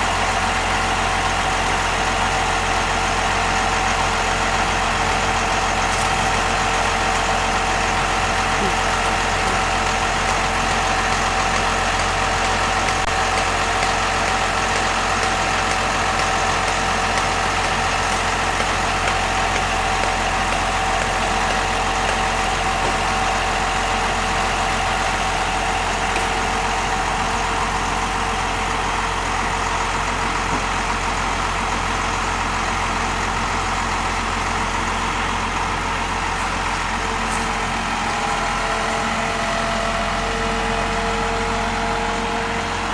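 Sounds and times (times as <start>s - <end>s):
engine droning steadily: 0.0s - 42.9s.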